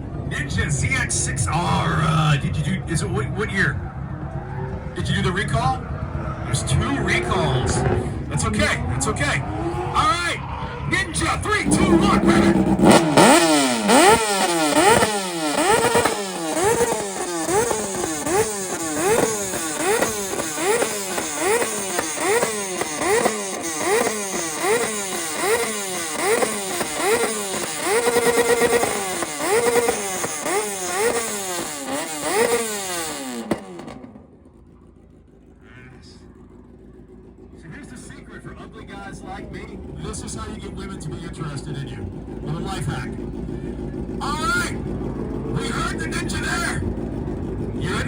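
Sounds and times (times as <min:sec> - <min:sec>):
motorcycle engine revving: 0:01.2 - 0:48.0.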